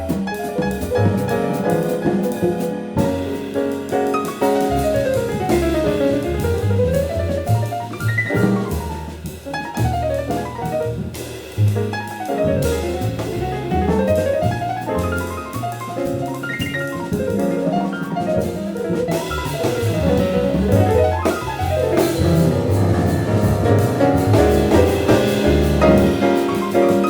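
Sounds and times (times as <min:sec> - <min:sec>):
bass notes: 0:00.0 - 0:27.0
drum kit: 0:00.0 - 0:27.0
grand piano: 0:00.0 - 0:27.0.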